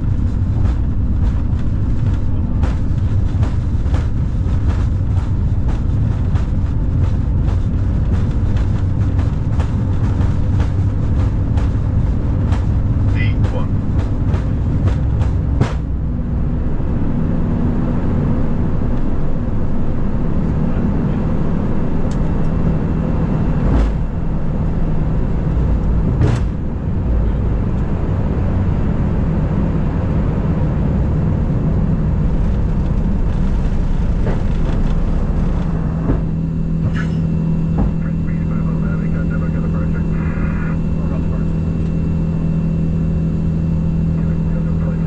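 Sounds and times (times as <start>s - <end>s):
aircraft cabin rumble: 0.0s - 45.0s
low hum: 0.0s - 45.0s.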